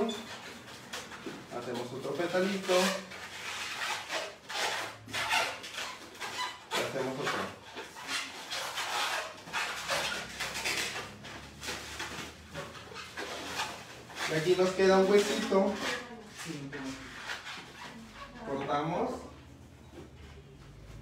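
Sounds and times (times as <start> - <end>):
balloon squeaking and rubbing: 0.0 - 19.2.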